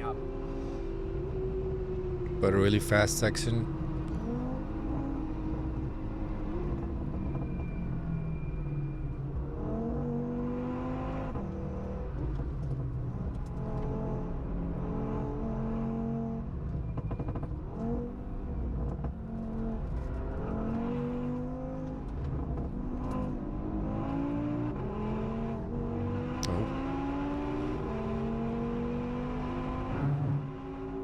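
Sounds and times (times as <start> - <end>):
car engine revving at full throttle: 2.4 - 7.4, 9.4 - 16.7, 17.3 - 31.0.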